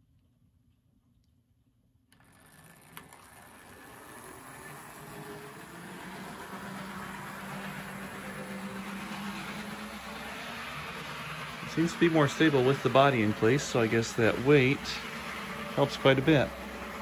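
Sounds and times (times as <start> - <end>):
model train motor humming: 2.1 - 17.0
wheels rolling on rails: 2.1 - 17.0.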